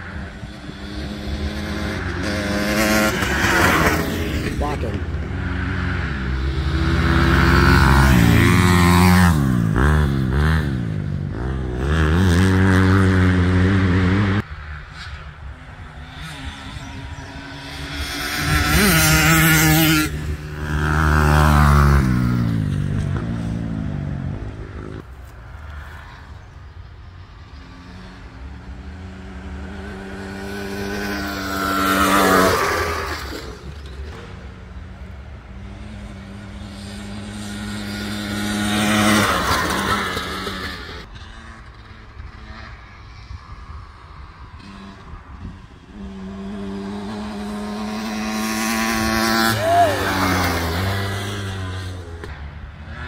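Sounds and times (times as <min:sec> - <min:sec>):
dirt bike engines racing past: 0:00.0 - 0:53.0.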